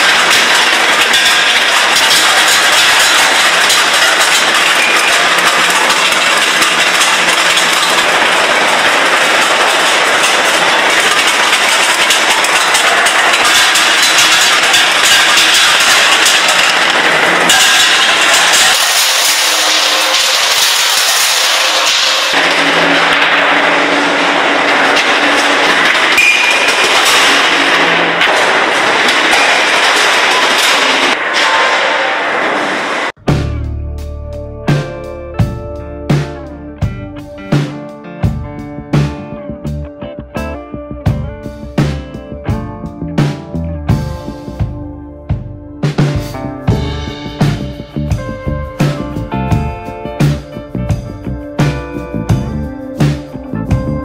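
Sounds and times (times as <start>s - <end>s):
factory machinery clattering: 0.0s - 33.2s, 43.2s - 54.0s.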